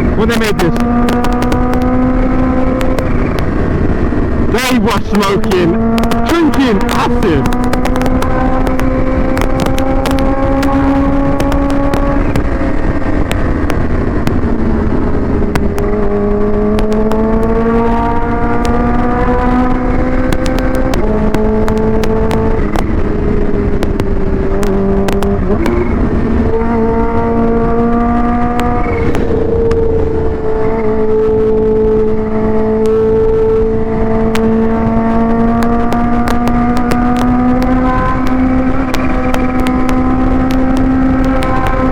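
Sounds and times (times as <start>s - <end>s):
motorcycle engine revving: 0.0s - 41.9s
wind noise on microphone: 0.0s - 41.9s.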